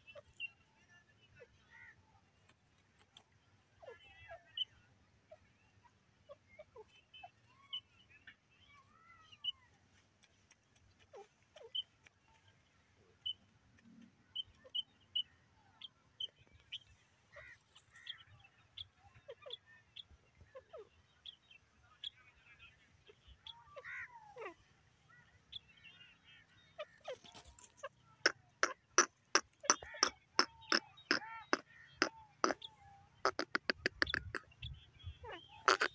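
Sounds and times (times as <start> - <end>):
birds calling: 1.4 - 35.9.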